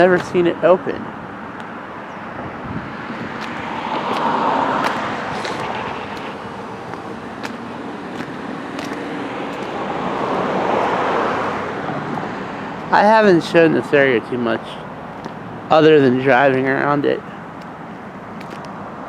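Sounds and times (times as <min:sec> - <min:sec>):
cars passing on road: 0:00.0 - 0:19.0.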